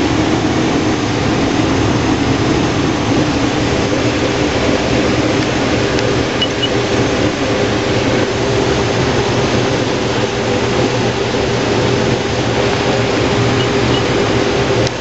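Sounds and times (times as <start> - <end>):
combine engine hum: 0.0 - 15.0.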